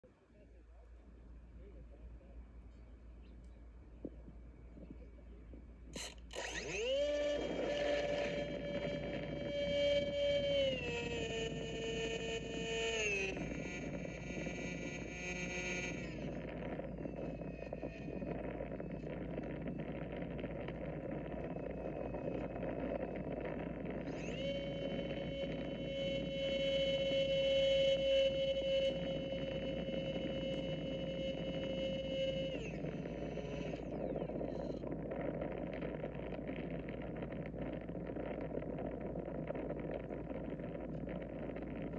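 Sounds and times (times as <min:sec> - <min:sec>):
model plane motor whine: 0:04.0 - 0:41.9.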